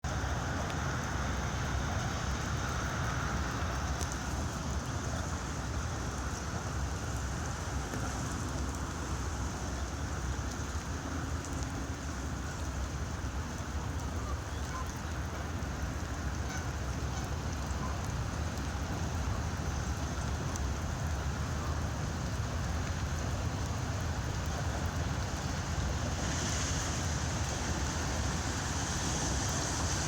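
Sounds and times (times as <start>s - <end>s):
wind rumble on microphone: 0.0s - 30.0s
floodwater rushing: 0.1s - 30.0s.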